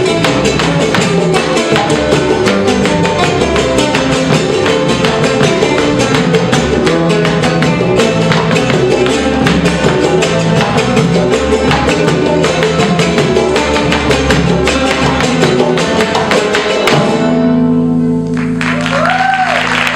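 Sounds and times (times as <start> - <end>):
band playing fast strummed music: 0.0 - 19.9.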